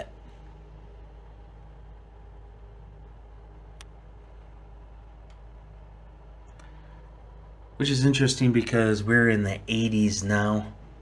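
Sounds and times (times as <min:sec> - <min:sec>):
computer fans and pump humming: 0:00.0 - 0:11.0.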